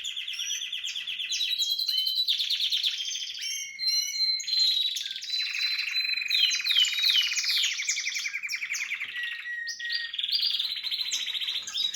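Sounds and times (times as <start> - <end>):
descending whistled bird notes: 0.0 - 11.9.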